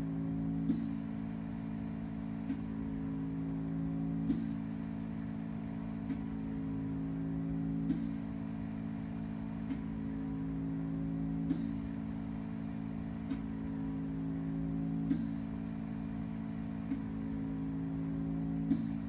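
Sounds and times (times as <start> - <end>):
low drone of held tones: 0.0 - 19.0.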